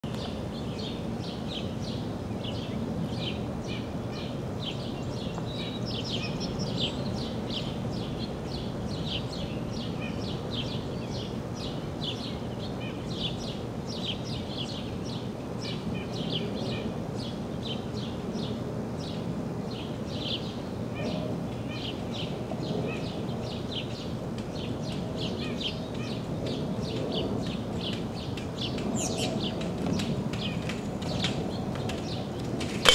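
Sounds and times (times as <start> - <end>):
outdoor background noise: 0.0 - 32.9.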